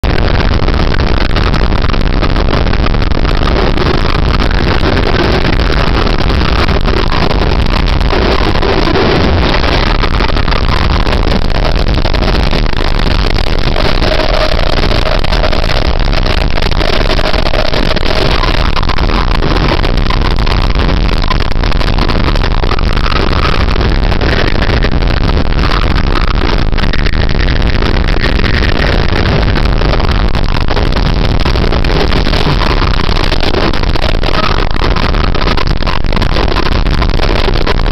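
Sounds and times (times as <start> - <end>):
boat motor: 0.0 - 37.9.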